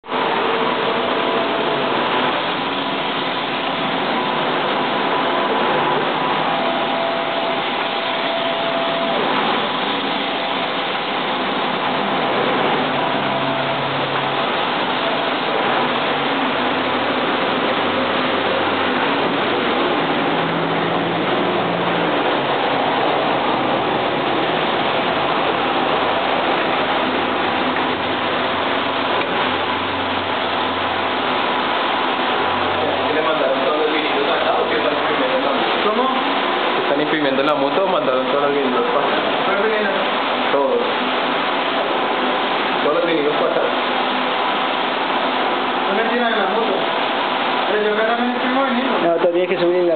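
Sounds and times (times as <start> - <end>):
faint held whine: 0.0 - 49.9
printer mechanical whir: 0.1 - 49.9.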